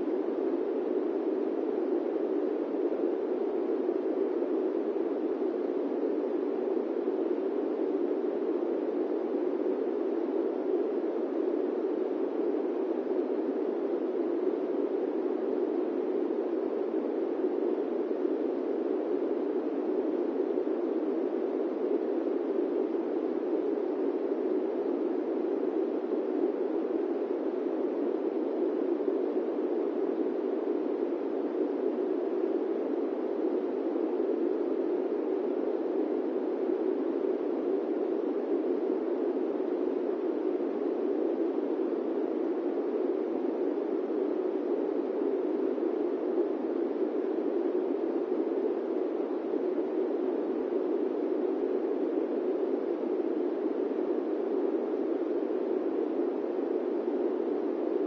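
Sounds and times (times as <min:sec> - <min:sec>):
airplane cabin white noise: 0:00.0 - 0:58.0.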